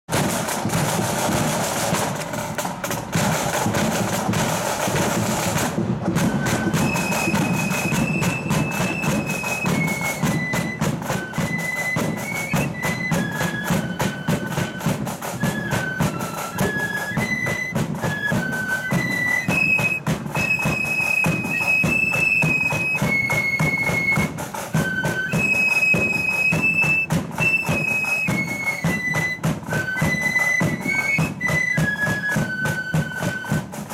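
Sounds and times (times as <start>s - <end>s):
flutes playing high melody: 0.1s - 33.9s
side drums and bass drum: 0.1s - 33.9s.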